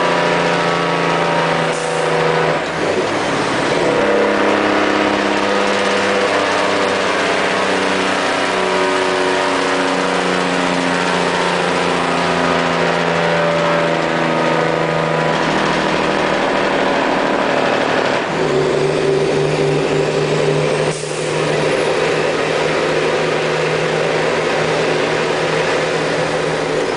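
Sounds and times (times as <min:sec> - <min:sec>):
diesel truck engine braking: 0:00.0 - 0:26.9.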